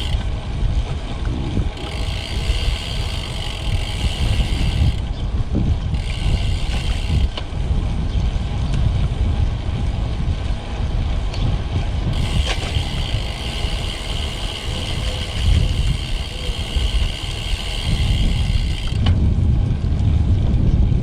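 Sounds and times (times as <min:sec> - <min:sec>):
road noise: 0:00.0 - 0:21.0
wind rumble on microphone: 0:00.0 - 0:21.0.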